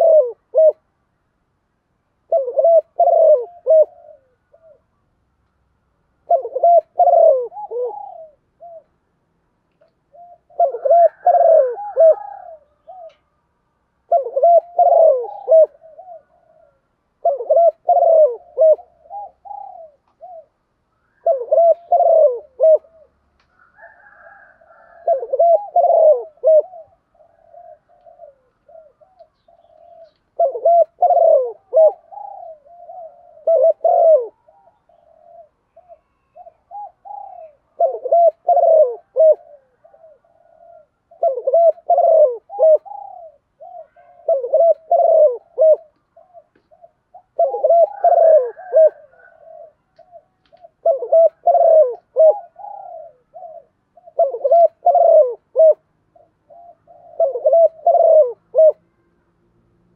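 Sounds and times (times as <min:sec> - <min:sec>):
dove cooing: 0:00.0 - 0:01.0, 0:02.2 - 0:05.1, 0:06.1 - 0:13.4, 0:14.0 - 0:59.0.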